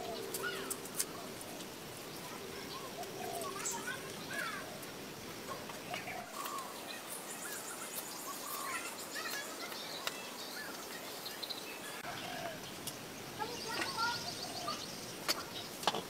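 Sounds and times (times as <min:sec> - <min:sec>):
birds chirping: 0:00.0 - 0:16.0
steady background hiss: 0:00.0 - 0:16.0.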